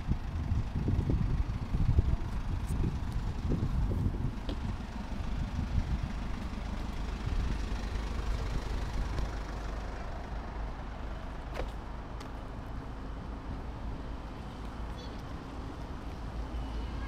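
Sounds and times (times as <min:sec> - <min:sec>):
road traffic rumbling: 0:00.0 - 0:17.0.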